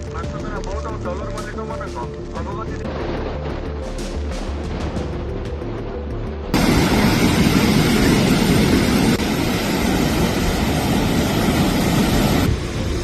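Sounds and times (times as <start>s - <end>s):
heavy rain: 0.0s - 13.0s
storm wind: 1.7s - 13.0s.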